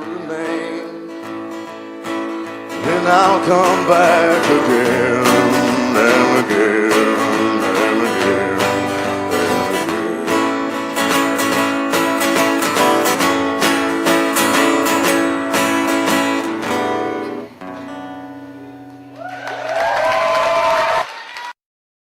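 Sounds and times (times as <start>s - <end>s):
strummed acoustic guitar: 0.0s - 19.2s.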